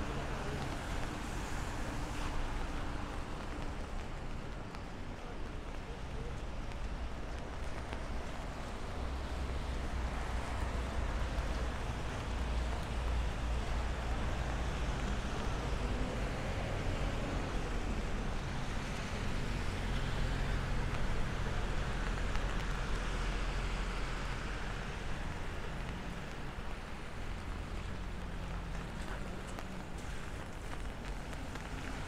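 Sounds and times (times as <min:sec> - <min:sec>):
rain hiss: 0:00.0 - 0:32.0
road traffic: 0:00.0 - 0:32.0.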